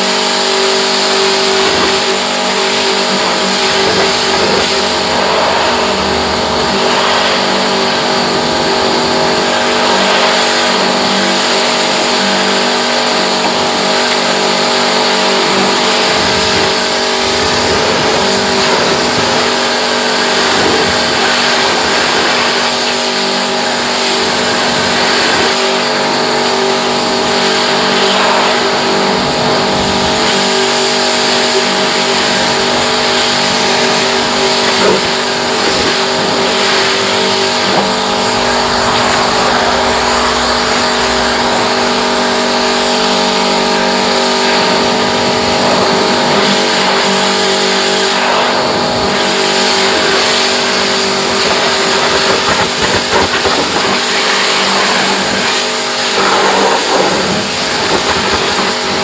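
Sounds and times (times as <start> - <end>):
pressure washer motor hum: 0.0 - 59.0
water spray hiss: 0.0 - 59.0.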